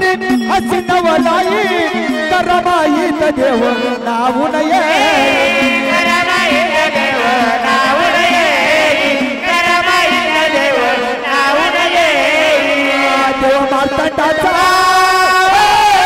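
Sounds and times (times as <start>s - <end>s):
devotional song: 0.0s - 16.0s.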